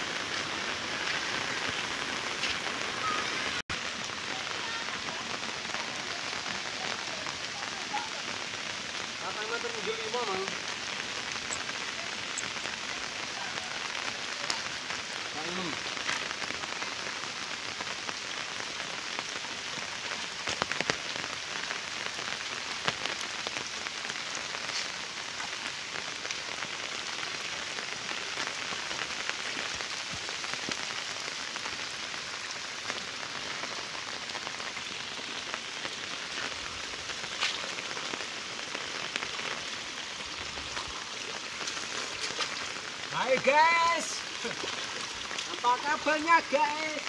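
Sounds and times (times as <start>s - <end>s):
rain falling on wet road: 0.0s - 47.0s
raindrop ticks: 4.3s - 47.0s.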